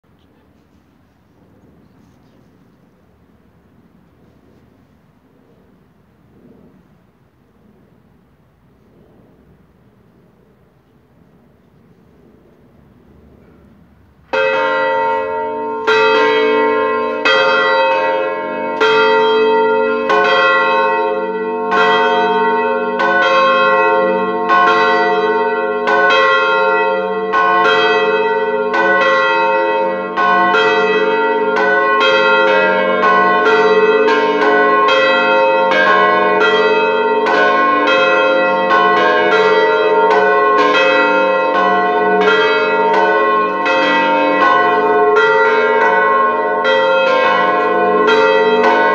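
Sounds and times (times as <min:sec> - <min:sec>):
church bells ringing: 0:06.4 - 0:48.9.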